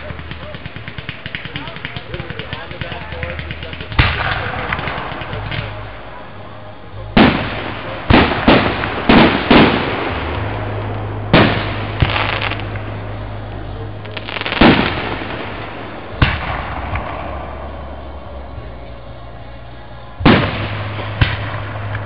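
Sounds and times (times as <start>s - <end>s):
fireworks bursting with bangs: 0.0s - 22.0s.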